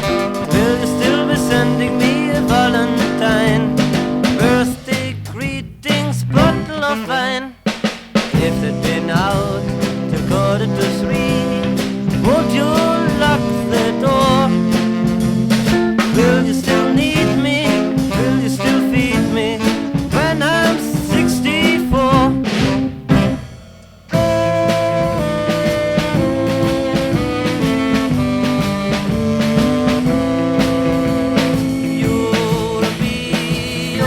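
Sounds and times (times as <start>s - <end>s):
instrumental beat band music: 0.0s - 34.0s.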